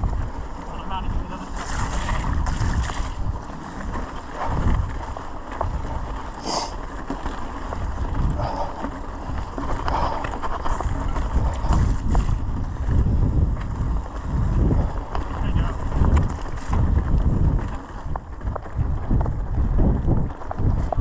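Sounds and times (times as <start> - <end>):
bike clicks and rattles: 0.0 - 21.0
bike tyres on dirt: 0.0 - 21.0
wind rumbling on microphone: 0.0 - 21.0.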